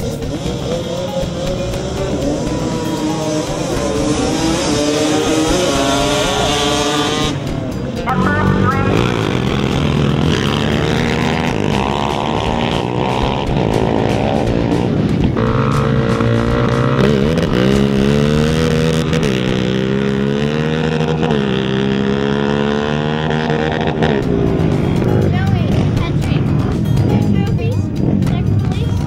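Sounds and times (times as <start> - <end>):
quad engines revving: 0.0 - 29.0.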